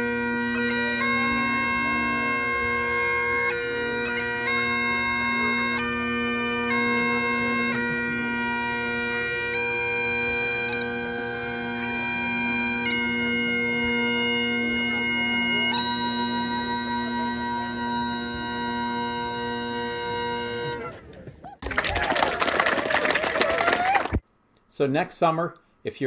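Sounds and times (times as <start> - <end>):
bagpipe melody: 0.0 - 21.0
bagpipe drones humming: 0.0 - 21.1.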